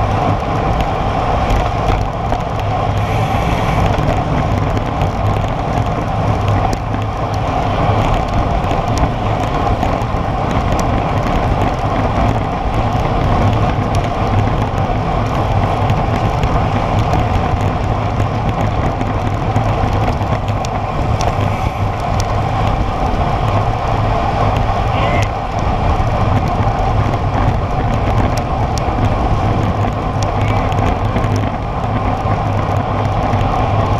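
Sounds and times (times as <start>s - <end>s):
bike tyres on asphalt: 0.0s - 33.9s
wind on microphone: 0.0s - 33.9s.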